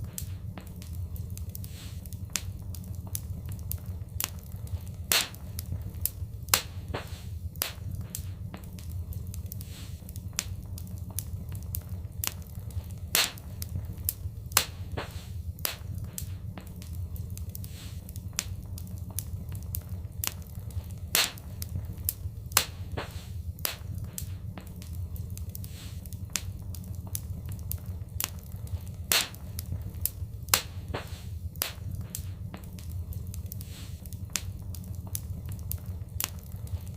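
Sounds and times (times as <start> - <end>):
fireplace fire crackling: 0.0 - 36.9.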